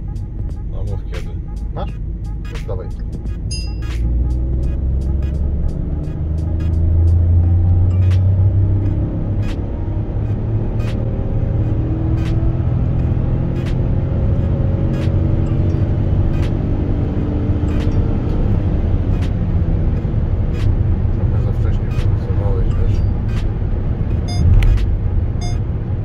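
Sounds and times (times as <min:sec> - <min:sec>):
van engine under full throttle: 0:00.0 - 0:26.0.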